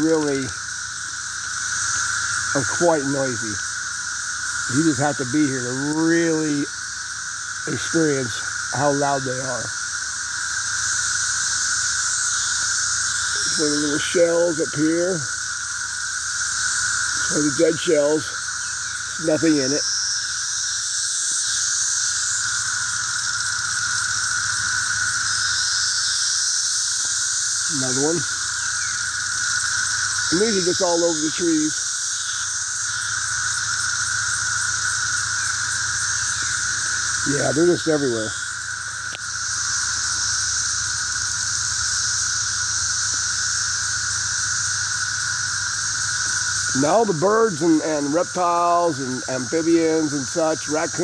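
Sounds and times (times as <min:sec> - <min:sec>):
cicadas buzzing: 0:00.0 - 0:51.0.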